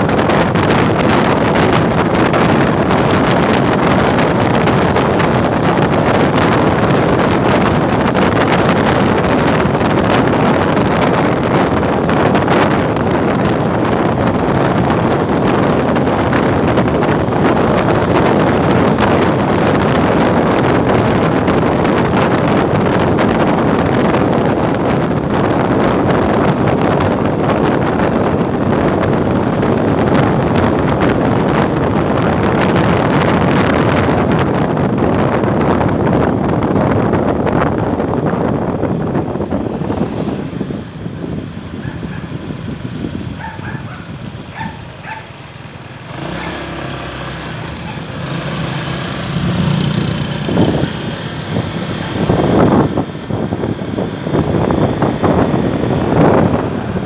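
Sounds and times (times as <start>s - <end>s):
motorcycle running: 0.0s - 57.0s
wind rushing over microphone: 0.0s - 57.0s.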